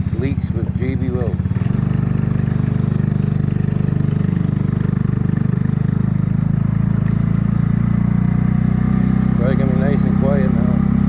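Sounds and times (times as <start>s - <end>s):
scooter engine running steadily: 0.0s - 11.0s.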